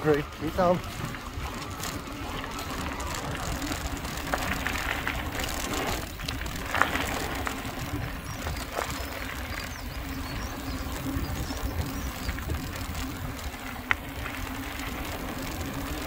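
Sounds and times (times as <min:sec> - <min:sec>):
bike clicks and rattles: 0:00.0 - 0:16.0
tyres crunching over gravel: 0:00.0 - 0:16.0
wind rumbling on microphone: 0:00.0 - 0:16.0.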